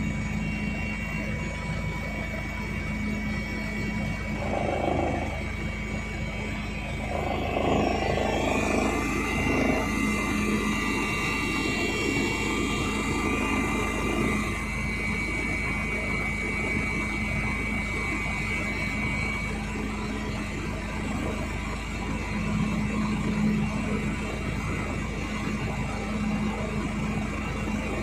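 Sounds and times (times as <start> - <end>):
helicopter rotor and engine drone: 0.0 - 28.0
thin high whine: 0.0 - 28.0.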